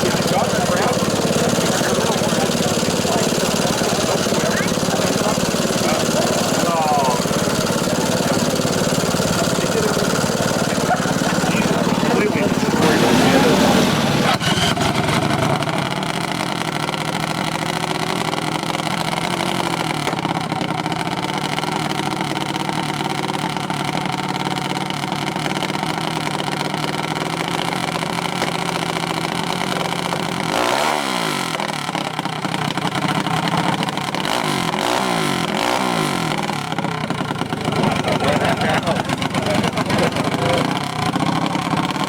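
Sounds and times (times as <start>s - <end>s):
minibike engine revving: 0.0s - 42.0s.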